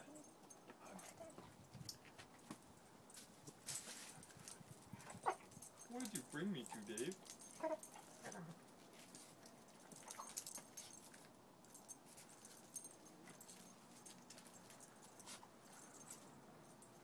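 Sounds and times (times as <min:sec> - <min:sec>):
dog collar tags clinking: 0:00.0 - 0:17.0.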